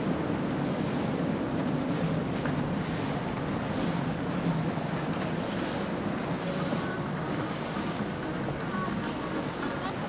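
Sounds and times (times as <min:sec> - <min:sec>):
boat engine rumble: 0:00.0 - 0:10.0
water noise: 0:00.0 - 0:10.0
wind: 0:00.0 - 0:10.0.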